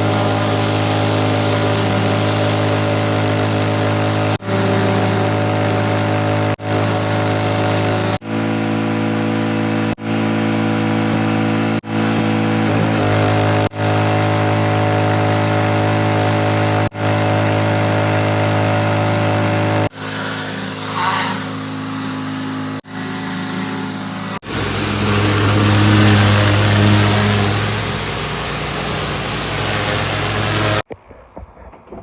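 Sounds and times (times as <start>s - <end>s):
pressure washer engine running: 0.0s - 30.9s.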